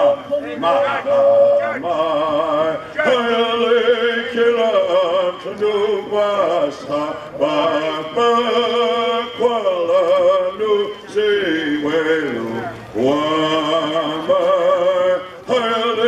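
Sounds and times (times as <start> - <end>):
man chanting in held notes: 0.0 - 16.0.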